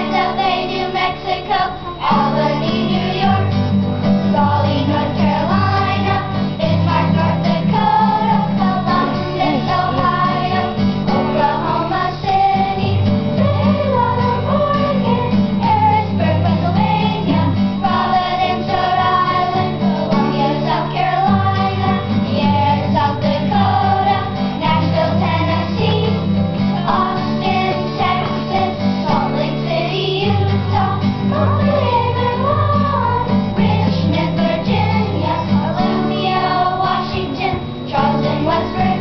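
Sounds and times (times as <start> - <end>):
acoustic guitar strumming: 0.0 - 39.0
children's choir singing: 0.0 - 39.0.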